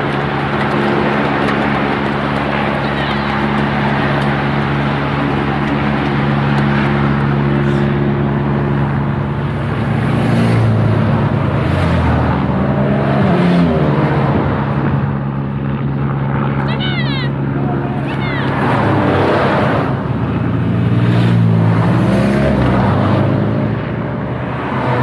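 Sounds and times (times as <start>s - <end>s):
bicycles passing: 0.0s - 25.0s
cars passing: 0.0s - 25.0s
helicopter drone overhead: 0.0s - 25.0s
motorcycle engine: 0.0s - 25.0s.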